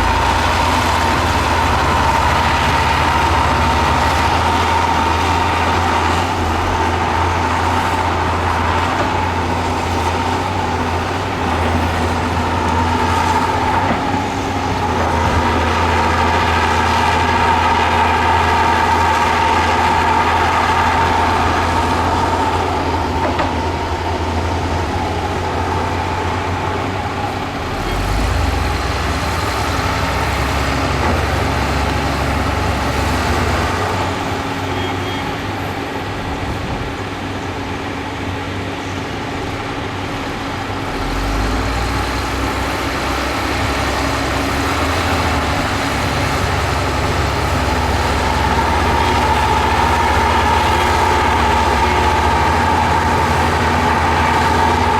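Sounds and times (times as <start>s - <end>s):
heavy machinery diesel engines: 0.0s - 54.9s.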